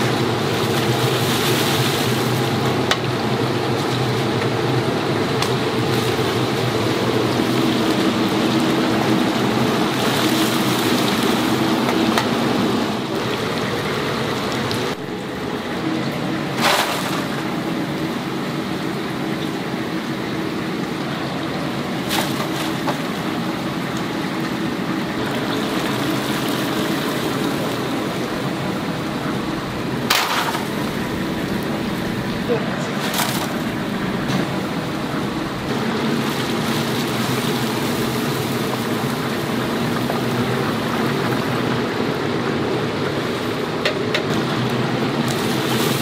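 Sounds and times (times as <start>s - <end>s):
hot oil sizzling: 0.0s - 46.0s.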